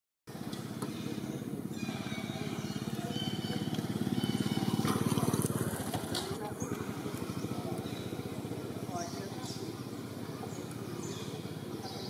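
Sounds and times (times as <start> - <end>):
small engine running: 0.3 - 12.0.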